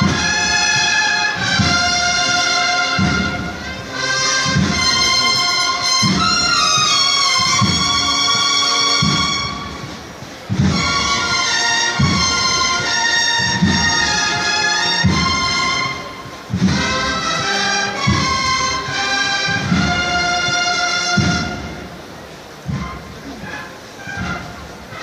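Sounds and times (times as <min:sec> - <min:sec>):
bugles in sustained harmony: 0:00.0 - 0:22.1, 0:22.7 - 0:25.0
bass drum beats: 0:00.0 - 0:23.5.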